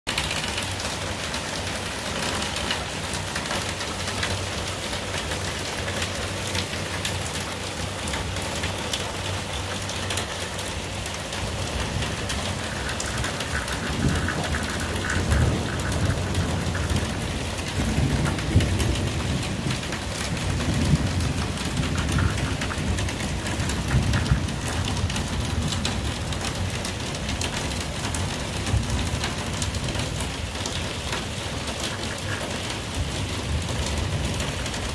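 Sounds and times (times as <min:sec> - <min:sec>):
heavy rain pouring: 0:00.1 - 0:34.9
thunder rumbling: 0:00.2 - 0:34.9.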